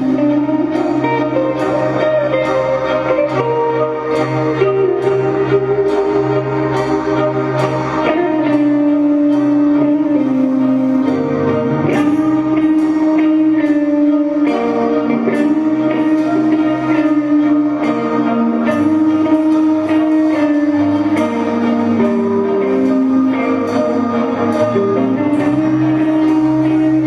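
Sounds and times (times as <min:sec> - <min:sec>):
melodic guitar lead: 0:00.0 - 0:27.0.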